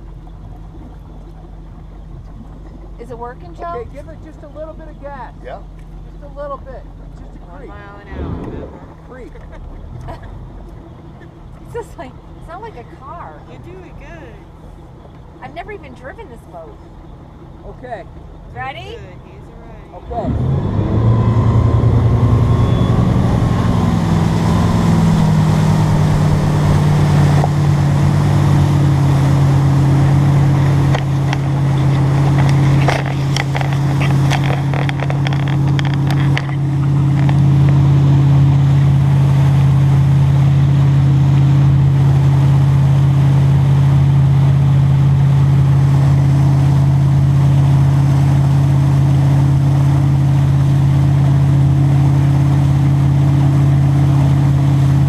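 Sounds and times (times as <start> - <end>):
boat engine throttling up: 0.0 - 55.0.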